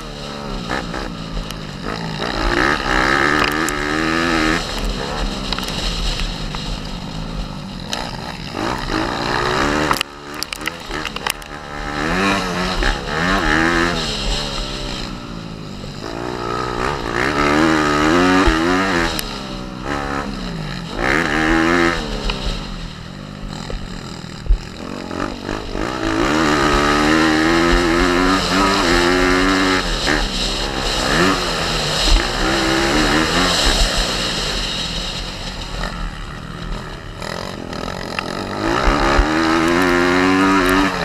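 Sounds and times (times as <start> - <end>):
small motorbike engine revving: 0.0 - 41.0.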